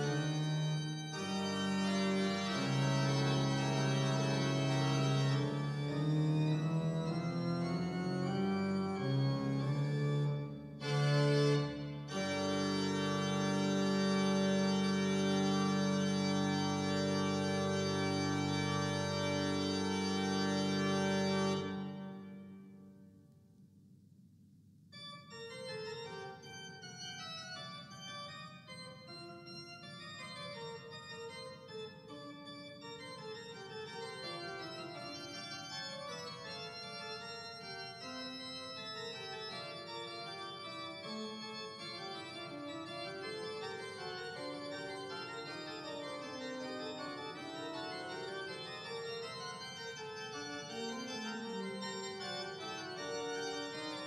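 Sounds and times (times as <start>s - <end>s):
organ playing slow chords: 0.0s - 23.0s, 25.0s - 54.0s.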